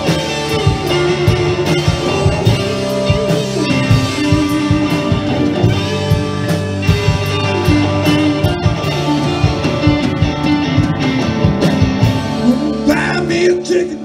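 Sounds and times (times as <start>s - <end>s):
drum kit beat: 0.0s - 13.8s
electric guitars: 0.0s - 14.0s.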